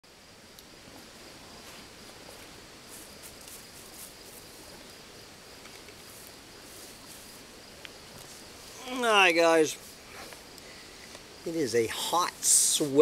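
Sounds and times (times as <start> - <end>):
faint outdoor background noise: 0.0 - 13.0
insects chirring: 0.1 - 13.0.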